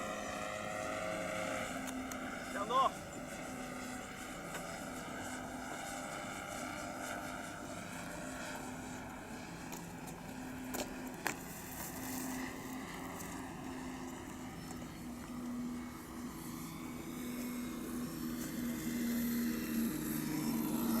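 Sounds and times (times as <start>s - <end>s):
model airplane engine drone: 0.0s - 21.0s.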